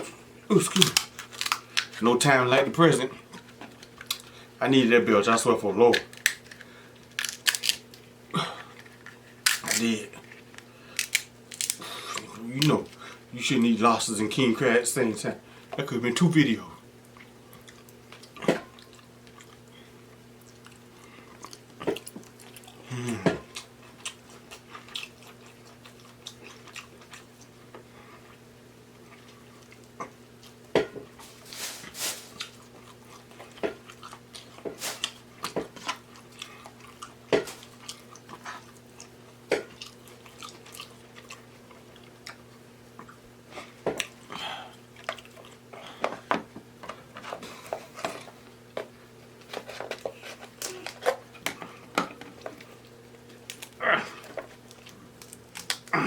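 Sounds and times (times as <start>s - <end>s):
person chewing and crunching food: 0.0s - 2.0s, 3.0s - 4.6s, 5.9s - 13.2s, 17.0s - 56.0s
low steady hum: 0.0s - 56.0s.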